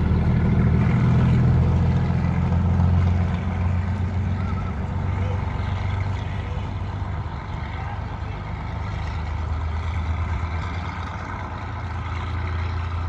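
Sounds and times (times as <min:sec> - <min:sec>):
diesel railcar engine droning: 0:00.0 - 0:13.0.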